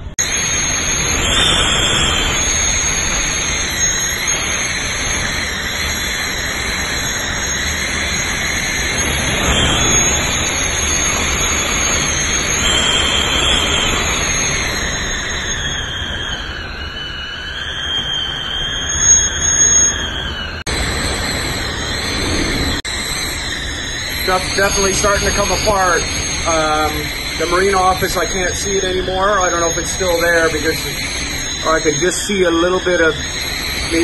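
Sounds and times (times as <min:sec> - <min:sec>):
high wind whistle: 0:00.0 - 0:34.0
loud rushing wind: 0:00.0 - 0:34.0.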